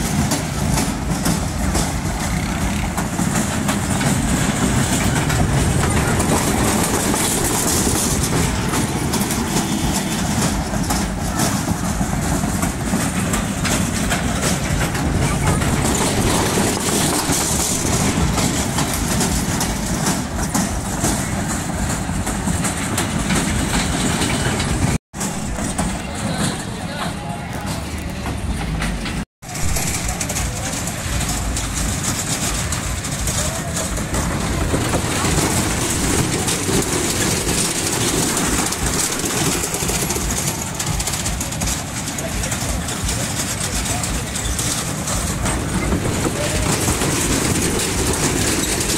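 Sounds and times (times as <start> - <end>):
fairground ride machinery running: 0.0 - 48.9.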